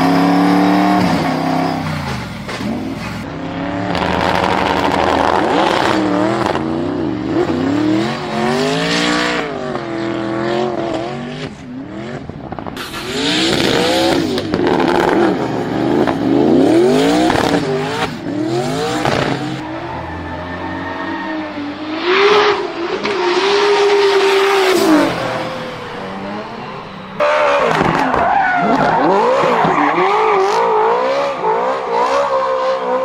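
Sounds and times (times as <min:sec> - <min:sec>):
car engine revving hard: 0:00.0 - 0:19.6, 0:20.7 - 0:33.0.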